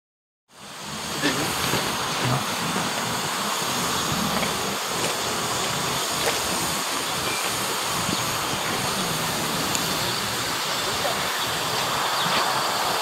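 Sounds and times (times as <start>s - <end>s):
steam locomotive hissing: 0.5s - 13.0s.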